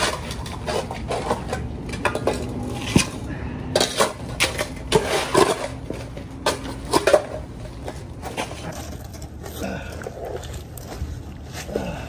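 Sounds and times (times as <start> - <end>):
shovels digging into concrete: 0.0 - 10.6.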